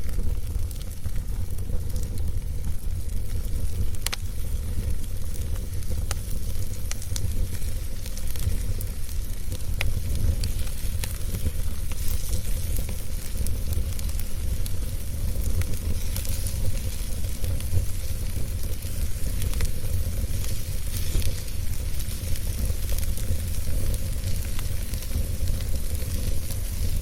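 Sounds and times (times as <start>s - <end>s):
burning wood crackling and popping: 0.0s - 27.0s
fire flames rumbling and hissing: 0.0s - 27.0s.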